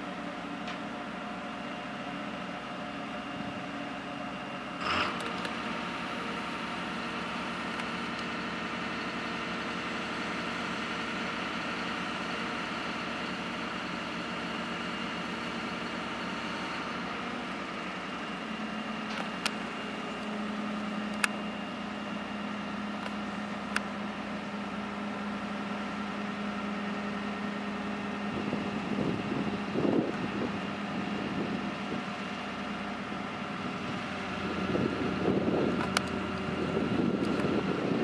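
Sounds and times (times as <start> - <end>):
construction machinery engine running: 0.0 - 38.0
rough loud machine noise: 0.0 - 38.0.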